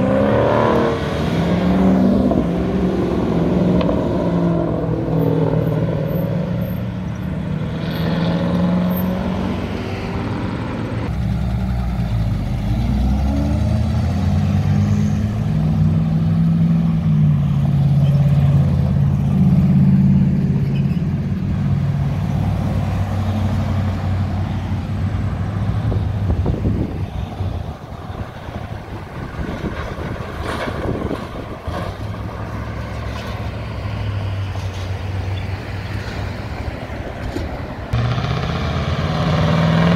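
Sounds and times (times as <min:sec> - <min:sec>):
cars and trucks driving past: 0:00.0 - 0:39.9
tyres on road: 0:00.0 - 0:39.9.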